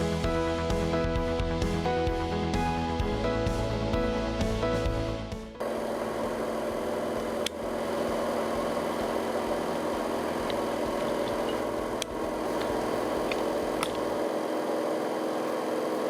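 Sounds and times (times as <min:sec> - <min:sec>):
washing machine spinning: 0:02.1 - 0:16.0.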